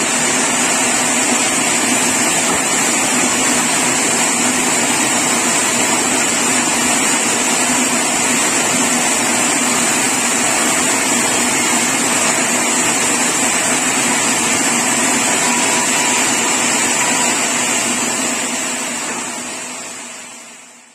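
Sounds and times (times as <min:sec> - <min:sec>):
sawmill machinery running: 0:00.0 - 0:20.9.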